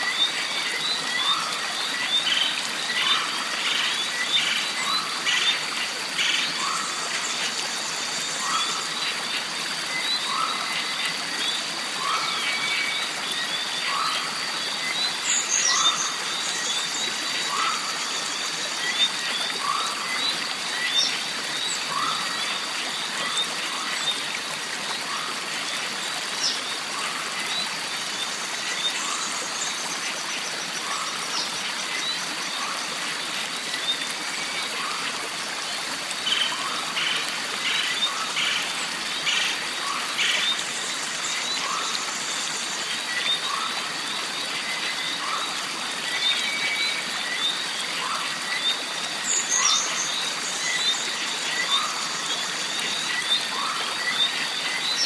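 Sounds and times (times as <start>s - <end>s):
stream water running: 0.0s - 55.0s.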